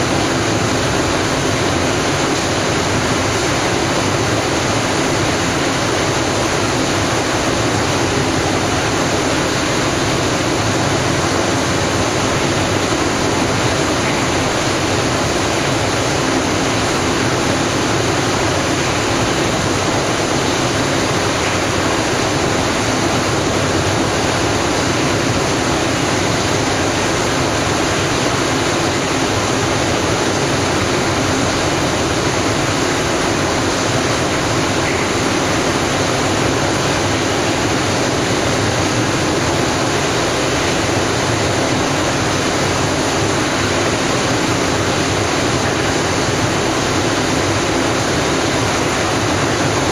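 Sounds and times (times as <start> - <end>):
turbulent water rushing: 0.0 - 49.9.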